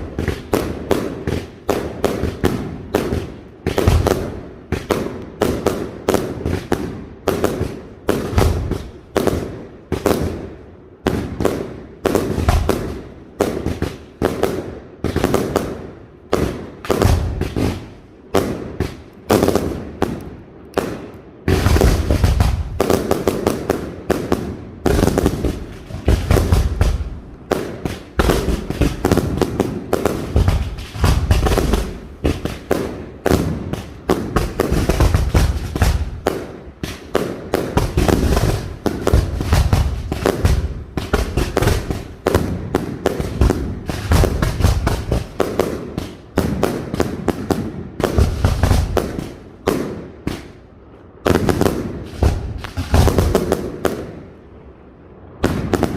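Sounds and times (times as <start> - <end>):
fireworks sharp bangs: 0.0 - 55.9.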